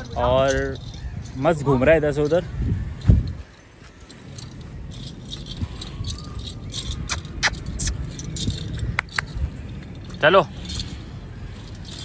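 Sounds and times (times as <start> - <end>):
ankle bells jingling: 0.0 - 12.0.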